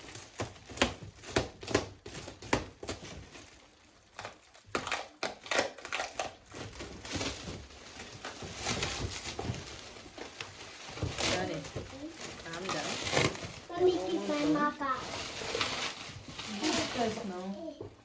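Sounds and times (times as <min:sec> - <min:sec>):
packaging being crumpled: 0:00.0 - 0:17.6.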